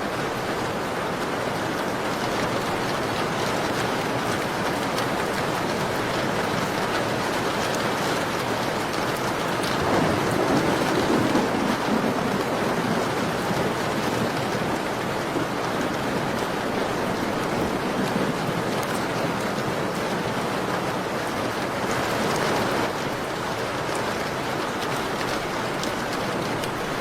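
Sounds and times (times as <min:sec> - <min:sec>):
rain pattering on a window: 0:00.0 - 0:27.0.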